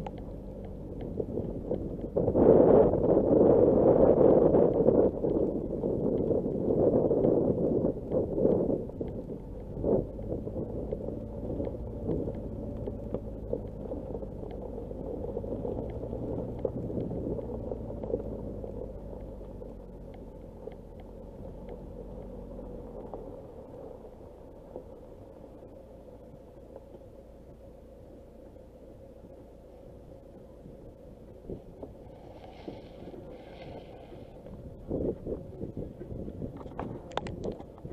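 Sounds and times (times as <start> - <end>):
car engine running low: 0.0 - 37.9
stones crackling under tyres: 0.0 - 37.9.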